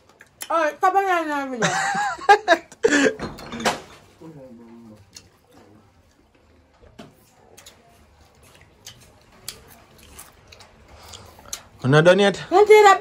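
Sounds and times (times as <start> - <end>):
people eating and chewing: 0.0 - 1.8, 2.4 - 13.0.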